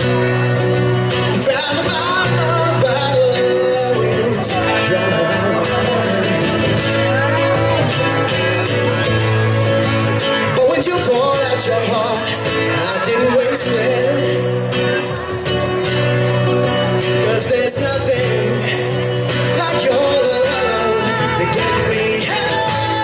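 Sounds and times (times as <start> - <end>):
person singing: 0.0 - 9.2, 10.4 - 23.0
strummed acoustic guitars: 0.0 - 23.0.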